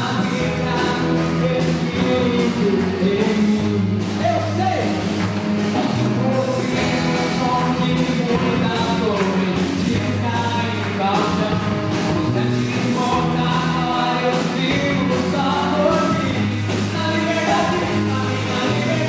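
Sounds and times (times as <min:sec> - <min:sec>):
bass notes: 0:00.0 - 0:19.0
drum beat: 0:00.0 - 0:19.0
person singing: 0:00.0 - 0:19.0
rock band playing: 0:00.0 - 0:19.0.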